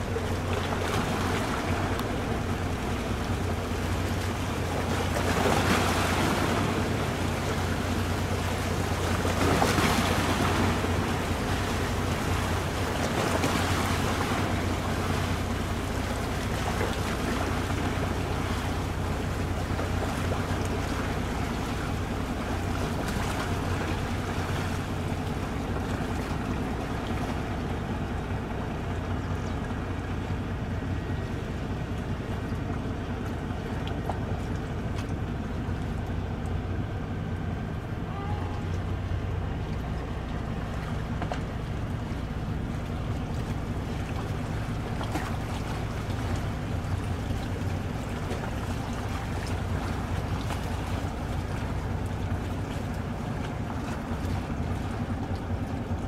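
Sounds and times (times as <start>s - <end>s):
boat engines droning: 0.0s - 56.0s
water noise: 0.0s - 56.0s.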